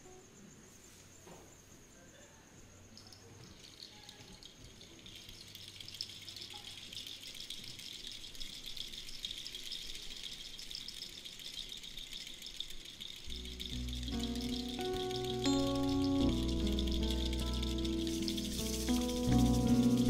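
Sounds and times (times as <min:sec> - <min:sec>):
bead rattle shimmering: 0:03.0 - 0:20.0.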